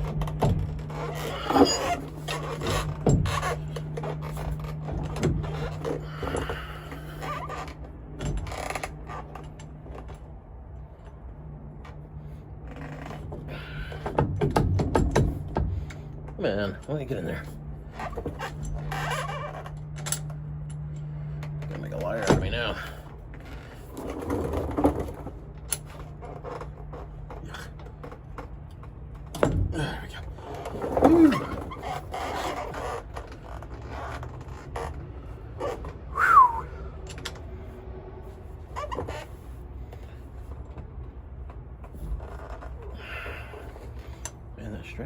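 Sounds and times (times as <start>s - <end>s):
creaks: 0.0s - 45.0s
steady low hum: 0.0s - 45.0s.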